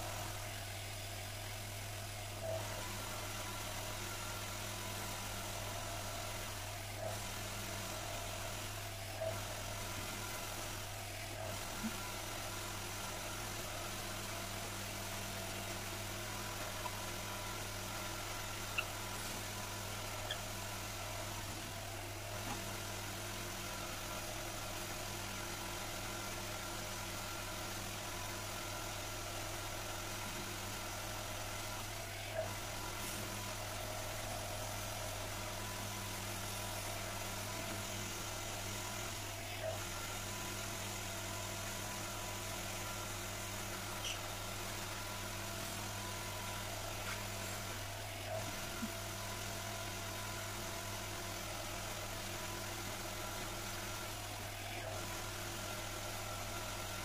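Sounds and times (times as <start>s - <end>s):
wood lathe motor hum: 0.0s - 57.0s.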